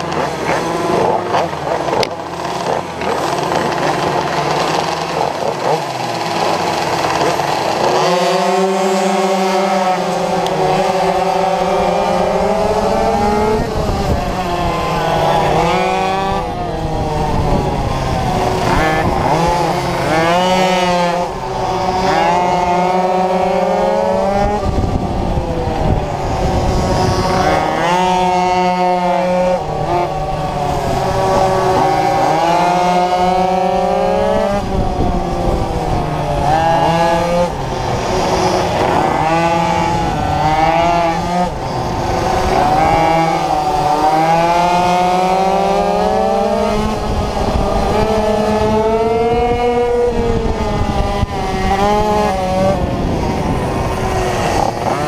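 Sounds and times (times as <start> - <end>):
two-stroke engines racing: 0.0 - 55.0
wind noise: 0.0 - 55.0.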